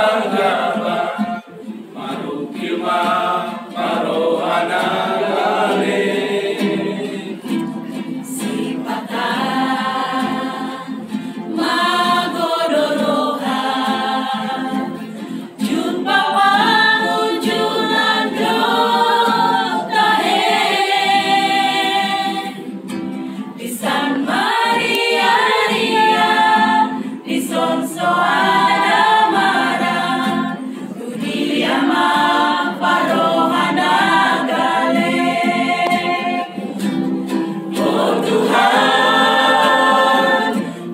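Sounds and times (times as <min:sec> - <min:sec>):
choir singing praise song: 0:00.0 - 0:40.9.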